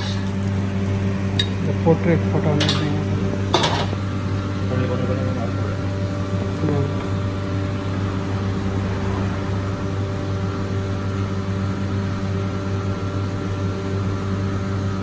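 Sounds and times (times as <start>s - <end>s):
kitchen equipment humming: 0.0s - 15.0s.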